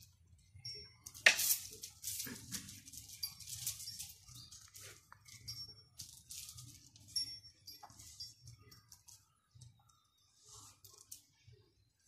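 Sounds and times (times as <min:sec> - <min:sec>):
metal chain clinking: 0:00.0 - 0:11.5
soft rustles: 0:01.3 - 0:11.6.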